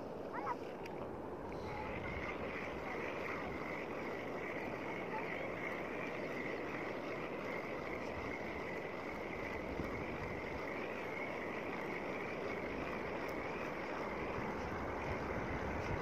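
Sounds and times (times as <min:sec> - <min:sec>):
choppy water lapping: 0:00.0 - 0:16.0
steady wind: 0:00.0 - 0:16.0.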